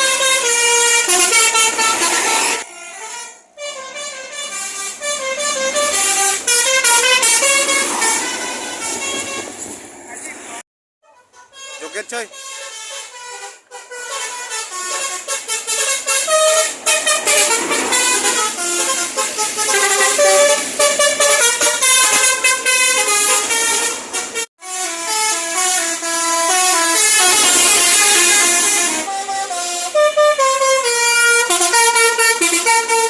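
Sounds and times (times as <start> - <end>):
musical air horn melody: 0.0 - 9.7, 11.0 - 33.0.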